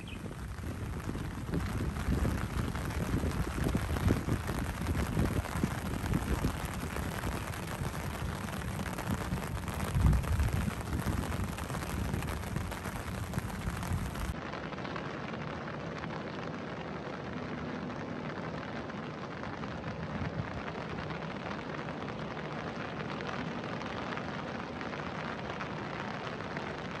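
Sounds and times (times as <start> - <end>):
rain on wet paving: 0.0 - 27.0.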